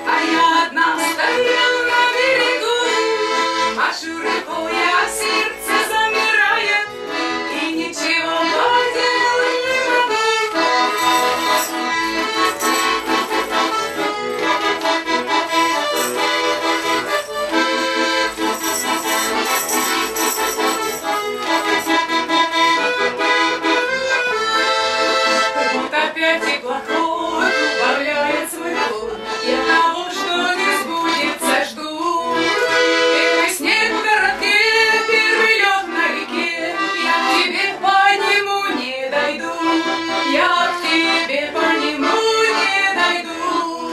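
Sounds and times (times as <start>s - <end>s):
button accordion folk tune: 0.0s - 43.9s.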